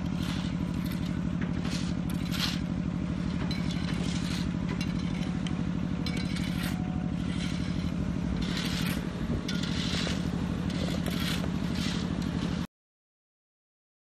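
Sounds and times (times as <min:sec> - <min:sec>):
bucket scraping and rattling: 0:00.0 - 0:12.7
excavator diesel engine running: 0:00.0 - 0:12.7.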